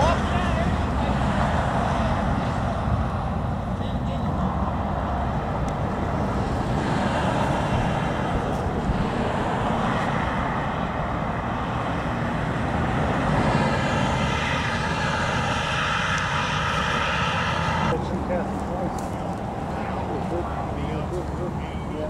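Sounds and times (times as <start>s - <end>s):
highway traffic passing: 0.0s - 22.0s
vehicle tyre whine: 0.0s - 22.0s.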